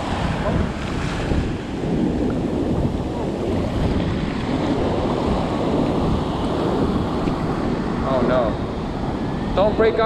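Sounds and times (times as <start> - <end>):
surf breaking on sand: 0.0 - 10.0
wind buffeting microphone: 0.0 - 10.0.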